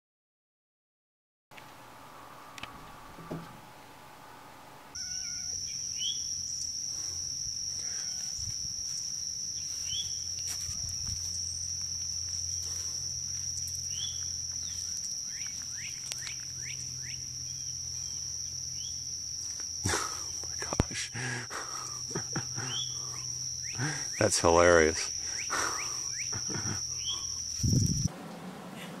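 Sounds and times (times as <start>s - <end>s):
insects droning: 1.6s - 29.0s.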